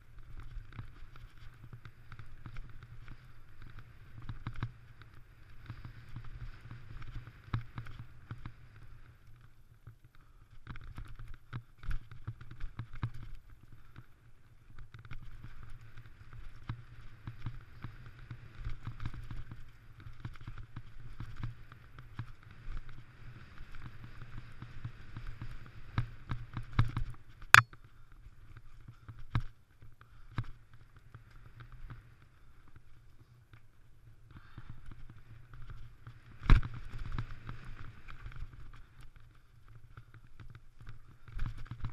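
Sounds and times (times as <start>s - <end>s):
bike tyres rumbling on dirt: 0.0s - 27.5s, 28.3s - 41.9s.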